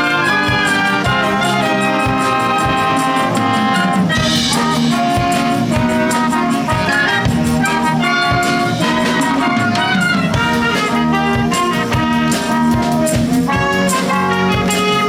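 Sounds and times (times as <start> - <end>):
percussion hits: 0.0 - 15.0
trumpets and trombones: 0.0 - 15.0
wind band playing: 0.0 - 15.0.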